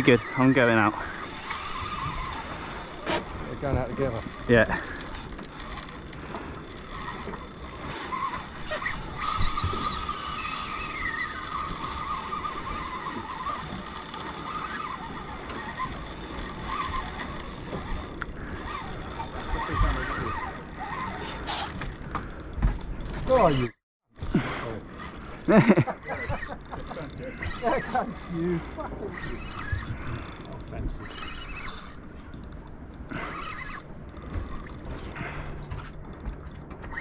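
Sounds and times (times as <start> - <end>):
fishing reel ratcheting: 0.0 - 35.2, 35.8 - 37.0
fishing reel whine: 0.0 - 37.0.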